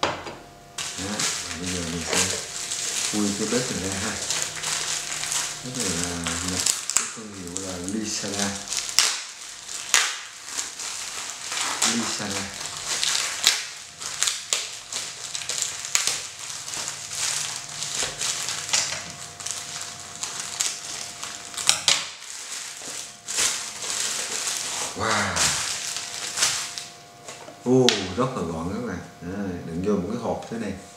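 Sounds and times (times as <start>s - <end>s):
plastic bag crinkling and tearing: 0.8s - 27.0s.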